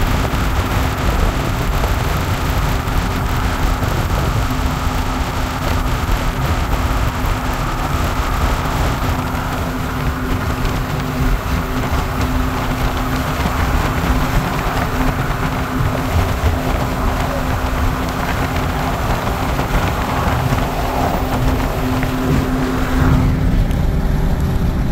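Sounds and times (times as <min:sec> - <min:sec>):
road and wind noise in vehicle: 0:00.0 - 0:24.9.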